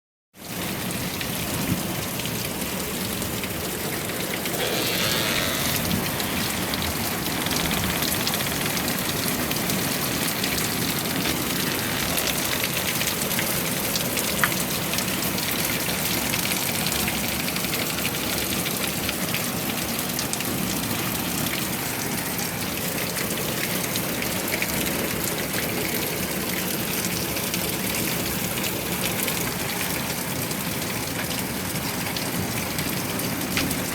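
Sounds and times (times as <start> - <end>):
heavy rain falling: 0.4 - 33.9
raindrops ticking on a surface: 0.4 - 33.9.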